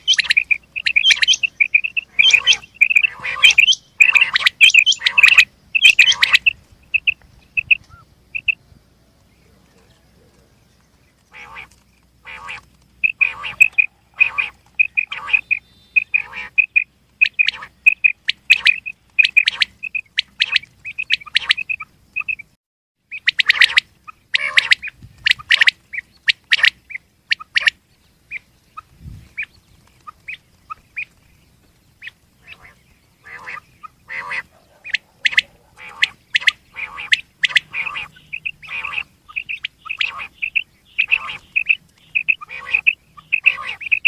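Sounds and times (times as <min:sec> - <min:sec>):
quail calling: 0:00.0 - 0:08.6, 0:11.2 - 0:31.3, 0:32.0 - 0:44.0.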